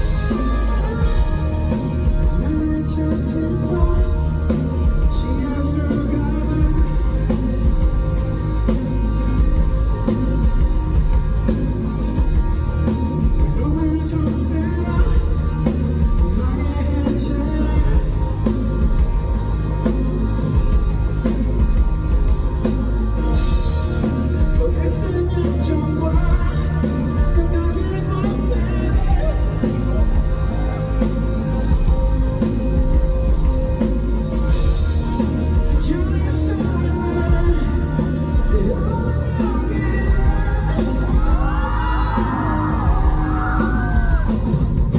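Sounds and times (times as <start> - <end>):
person singing: 0.0 - 19.4, 23.1 - 44.9
drums: 0.0 - 44.9
guitar: 0.0 - 44.9
live rock band playing: 0.0 - 44.9
loud bass: 0.0 - 44.9.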